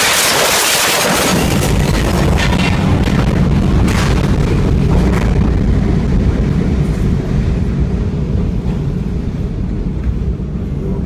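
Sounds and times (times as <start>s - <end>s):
deep rumble after explosion: 0.0s - 11.0s.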